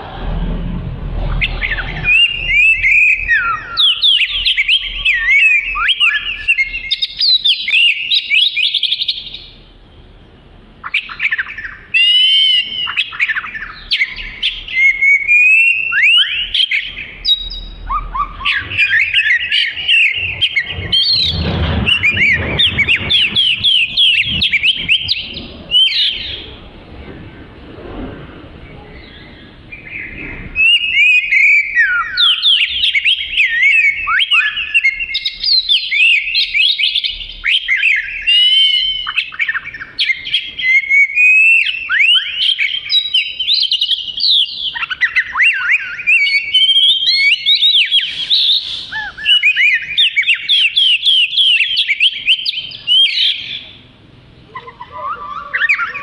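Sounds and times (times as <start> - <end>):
bird singing whistles and trills: 1.3 - 9.6, 10.8 - 27.1, 28.6 - 53.8, 54.5 - 56.0.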